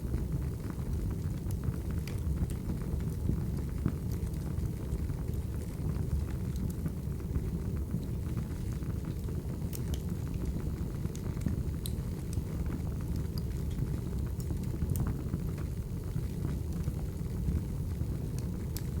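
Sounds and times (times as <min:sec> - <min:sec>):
wood fire pops and crackles: 0:00.0 - 0:19.0.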